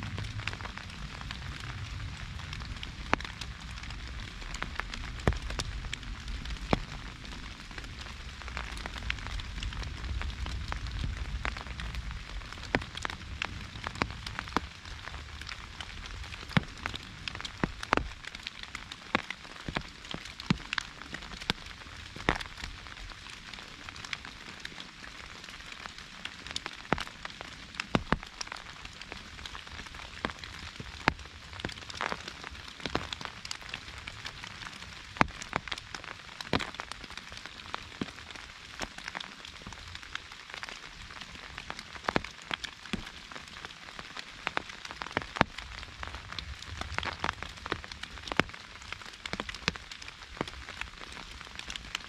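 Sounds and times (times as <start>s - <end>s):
rain on an umbrella: 0.0s - 52.0s.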